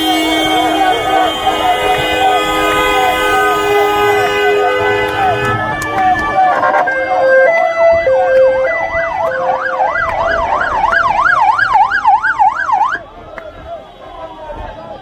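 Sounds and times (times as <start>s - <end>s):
police siren: 0.0s - 14.7s.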